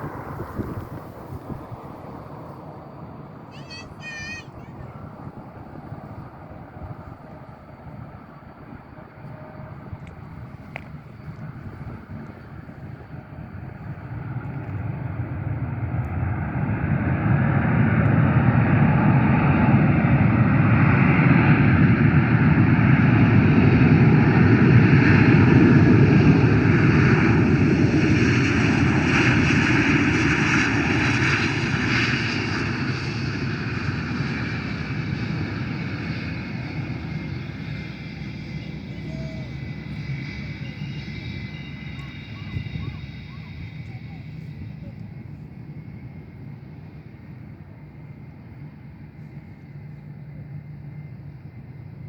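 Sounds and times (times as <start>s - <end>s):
airliner engine passing overhead: 0.0s - 52.0s
high engine whine: 0.0s - 52.0s.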